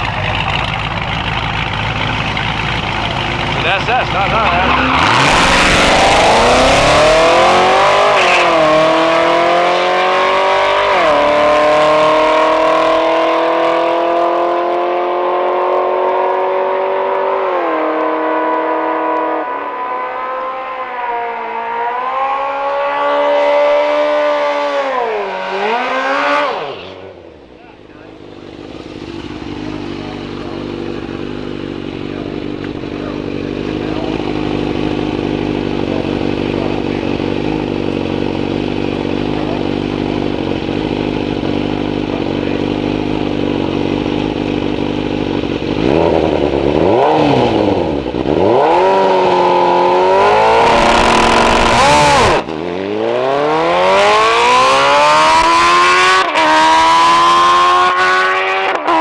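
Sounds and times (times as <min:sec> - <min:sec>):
drag racing engine revving: 0:00.0 - 0:59.0.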